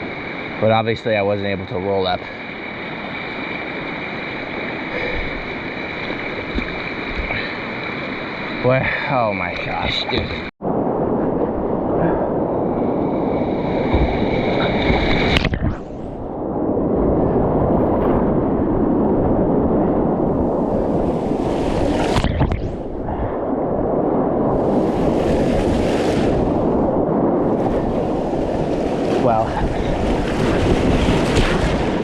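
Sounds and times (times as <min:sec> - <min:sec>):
wind noise on microphone: 0:02.5 - 0:08.7, 0:09.5 - 0:32.0.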